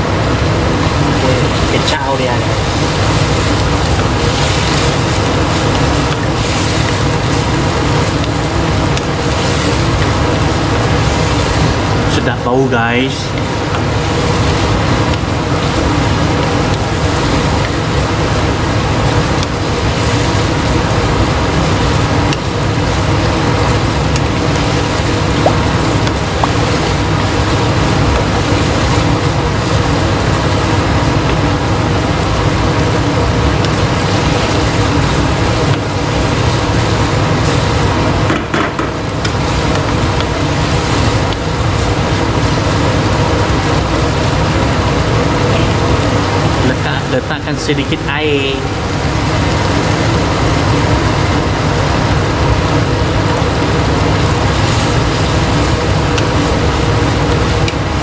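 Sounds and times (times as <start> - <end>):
constant low rumble: 0.0 - 58.0
meat sizzling in a pan: 0.8 - 46.7, 48.7 - 58.0.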